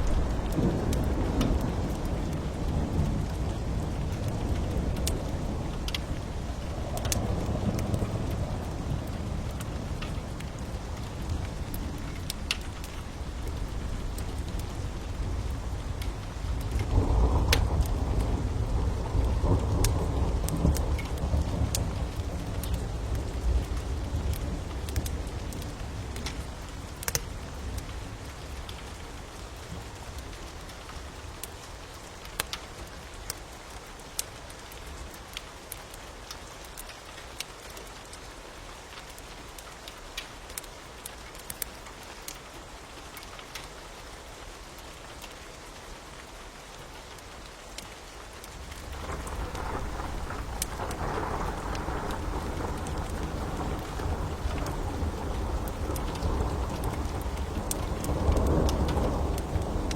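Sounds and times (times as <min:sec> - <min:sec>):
wood fire crackling and popping: 0:00.0 - 0:42.5, 0:47.1 - 0:59.9
rain hissing: 0:00.0 - 0:59.9.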